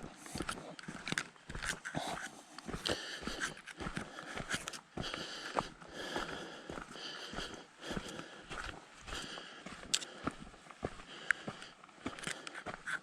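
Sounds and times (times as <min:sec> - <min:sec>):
footsteps on a trail: 0:00.0 - 0:13.0
person breathing hard: 0:01.8 - 0:13.0.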